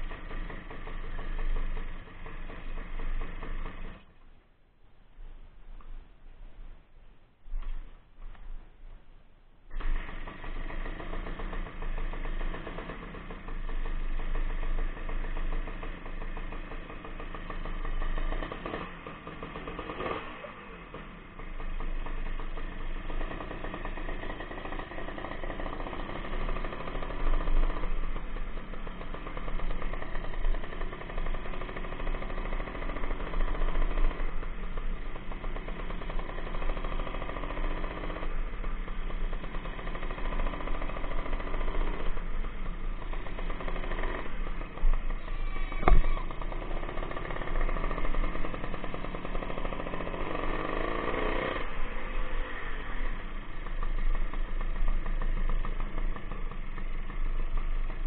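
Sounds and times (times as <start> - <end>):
two-stroke motorcycle engine: 0.0 - 4.3, 7.5 - 8.7, 9.7 - 58.0.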